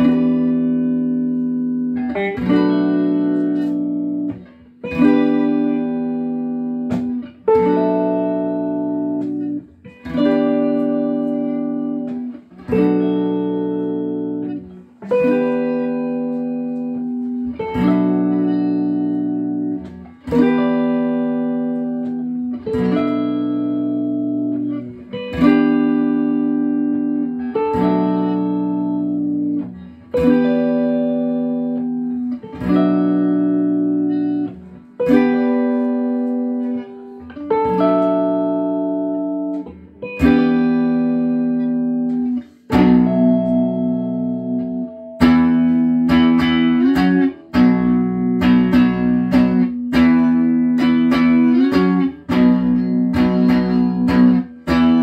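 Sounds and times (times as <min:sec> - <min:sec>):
electric guitars playing chords: 0:00.0 - 0:55.0.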